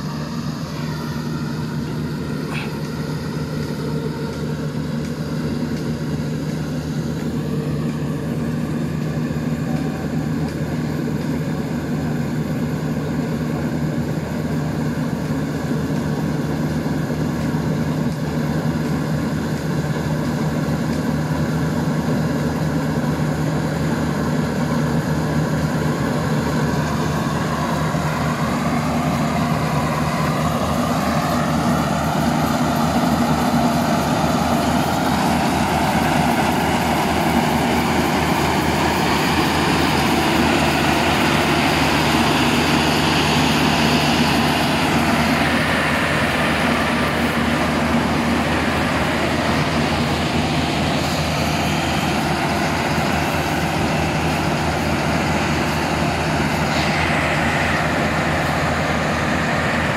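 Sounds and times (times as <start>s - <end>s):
combine harvester running: 0.0s - 59.9s.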